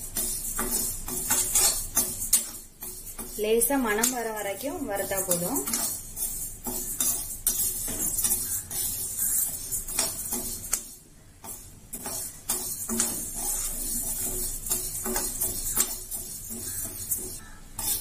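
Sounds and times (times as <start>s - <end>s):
dry grains rattling in pan: 0.0s - 18.0s
spatula scraping metal pan: 0.0s - 18.0s.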